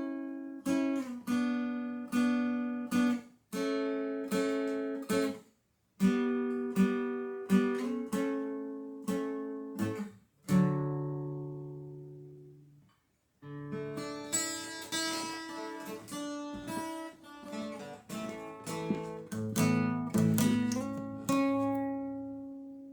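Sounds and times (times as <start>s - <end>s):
acoustic guitar playing: 0.0s - 5.4s, 6.0s - 12.8s, 13.4s - 22.9s.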